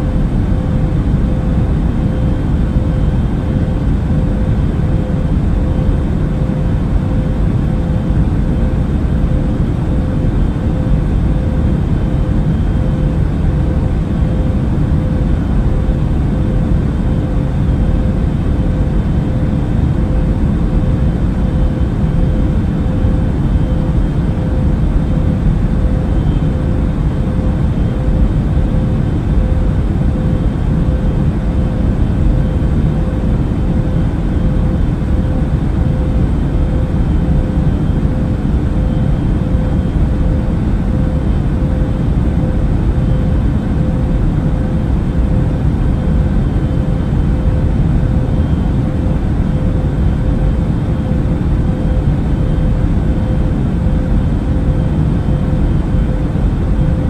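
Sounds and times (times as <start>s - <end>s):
airplane cabin engine rumble: 0.0s - 57.0s
constant hum: 0.0s - 57.0s.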